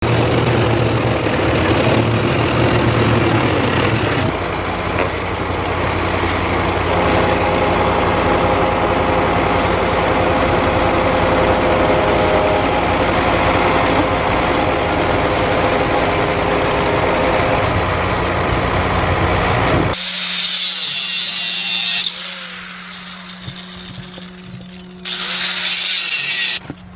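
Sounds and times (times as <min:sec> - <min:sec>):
machine engine humming: 0:00.0 - 0:26.9.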